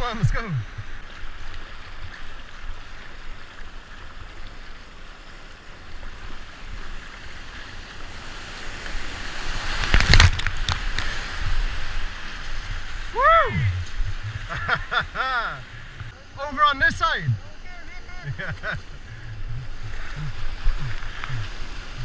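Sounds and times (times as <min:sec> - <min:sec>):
paddle splashes: 0:00.0 - 0:16.2, 0:17.0 - 0:22.0
rushing water: 0:00.0 - 0:22.0.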